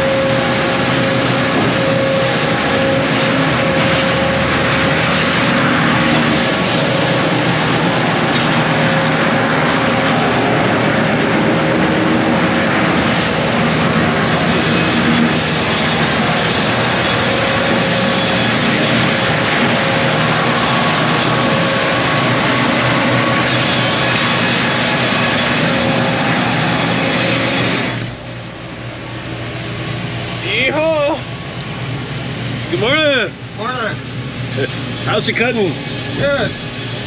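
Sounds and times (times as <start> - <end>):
band saw machinery noise: 0.0 - 37.0.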